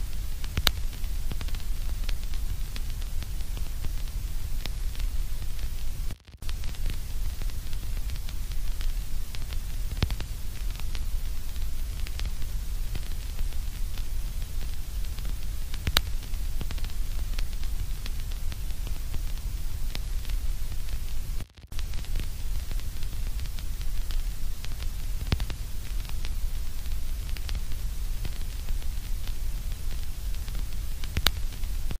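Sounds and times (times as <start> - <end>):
small crackles and clicks: 0.0 - 32.0
static hiss: 0.0 - 32.0.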